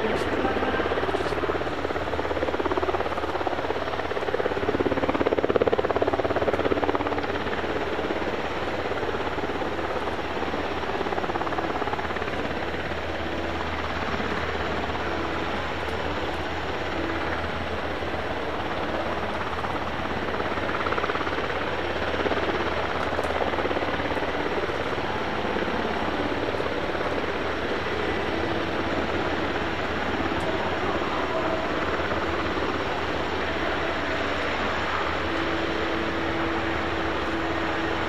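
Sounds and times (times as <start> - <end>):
helicopter rotor beating: 0.0 - 38.0.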